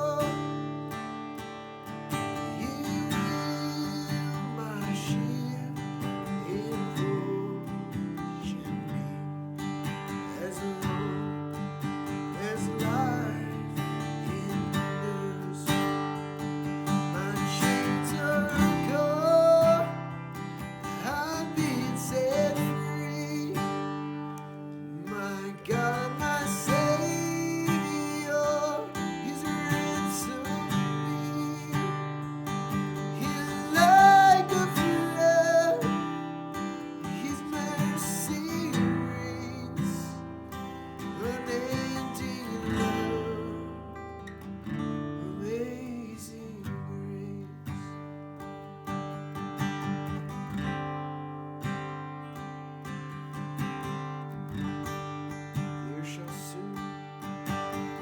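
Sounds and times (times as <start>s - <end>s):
strummed acoustic guitar: 0.0s - 58.0s.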